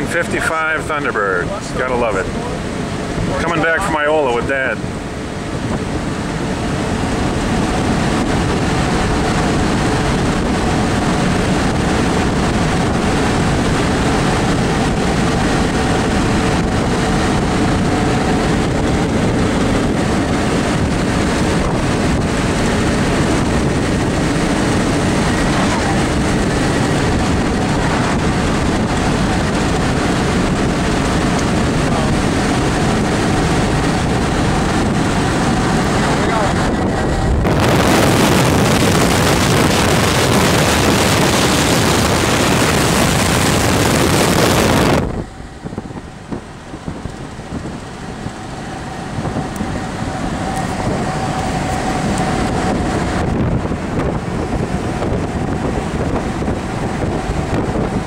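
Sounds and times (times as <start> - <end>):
car engine cruising: 0.0 - 58.0
wind buffeting microphone: 0.0 - 58.0.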